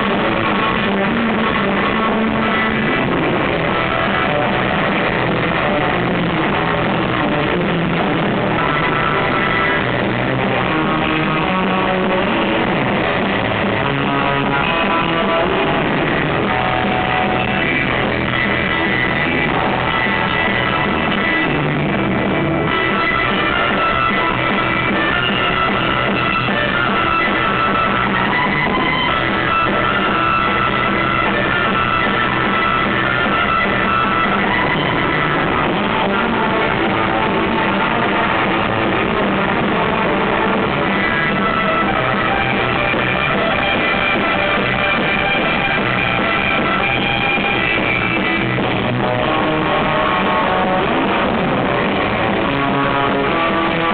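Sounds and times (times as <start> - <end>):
drum kit: 0.0 - 53.9
fast electric guitar: 0.0 - 53.9.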